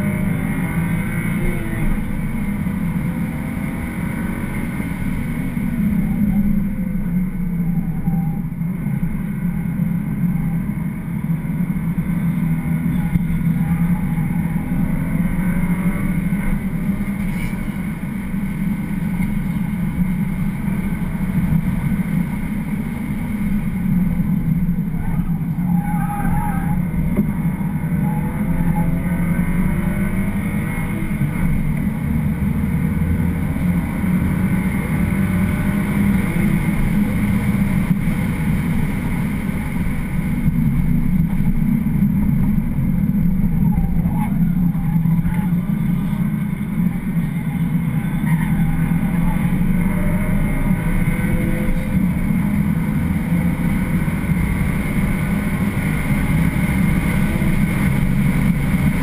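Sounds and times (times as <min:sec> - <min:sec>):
car engine revving: 0:00.0 - 0:59.0
road and tyre noise: 0:00.0 - 0:59.0.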